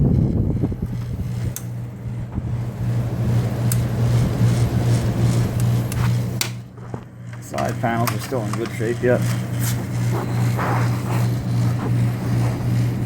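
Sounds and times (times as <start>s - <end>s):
window air conditioner running: 0.0s - 13.0s.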